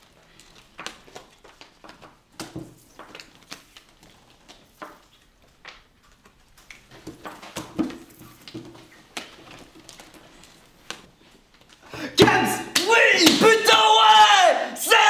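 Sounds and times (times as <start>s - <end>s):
playing cards tapping and clicking: 0.2s - 13.5s.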